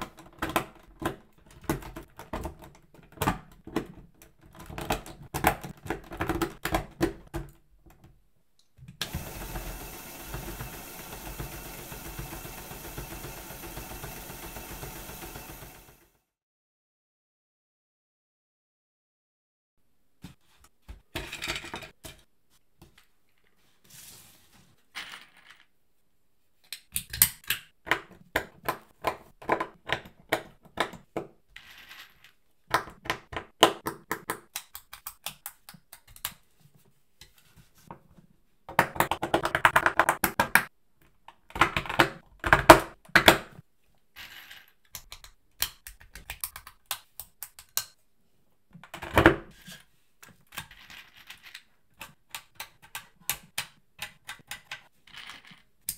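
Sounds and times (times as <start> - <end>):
plastic parts clicking and rattling: 0.0 - 16.0, 21.1 - 23.4, 26.6 - 36.6, 37.2 - 48.0, 48.7 - 55.9.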